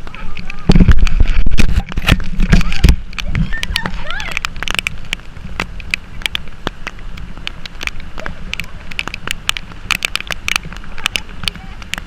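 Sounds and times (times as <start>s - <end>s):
raindrops pattering: 0.0s - 12.0s.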